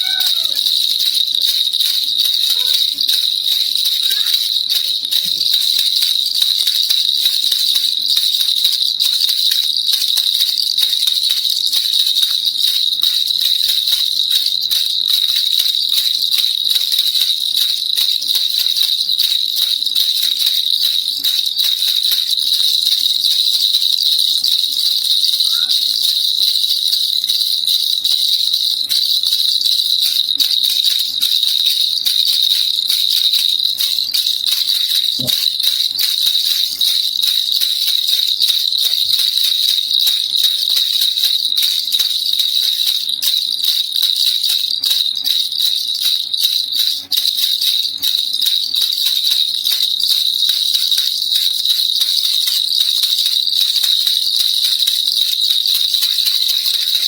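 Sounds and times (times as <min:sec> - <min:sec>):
baby rattle shaken: 0:00.0 - 0:57.0.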